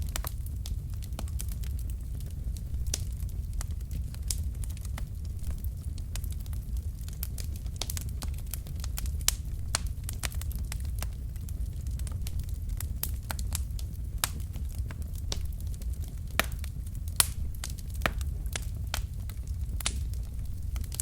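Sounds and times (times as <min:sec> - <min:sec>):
low rumble of flames: 0:00.0 - 0:21.0
sharp pops from burning logs: 0:00.0 - 0:21.0
wood fire crackling: 0:00.0 - 0:21.0.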